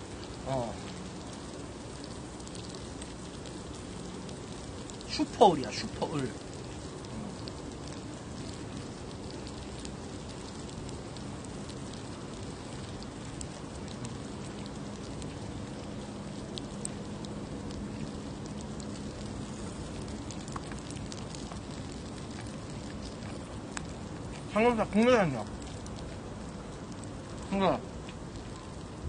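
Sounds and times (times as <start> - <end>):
pork sizzling on a grill: 0.0 - 29.0.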